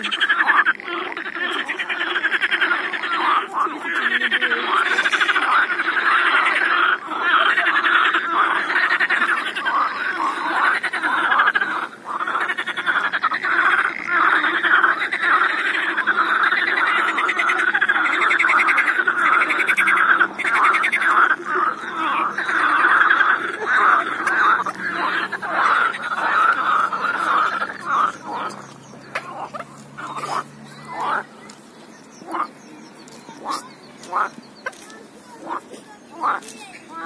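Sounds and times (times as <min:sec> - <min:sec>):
frogs croaking: 0:00.0 - 0:37.0.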